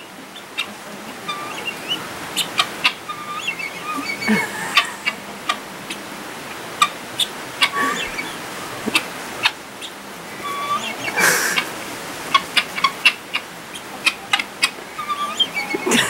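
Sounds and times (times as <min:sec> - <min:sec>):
guinea fowl calling: 0:00.0 - 0:16.0.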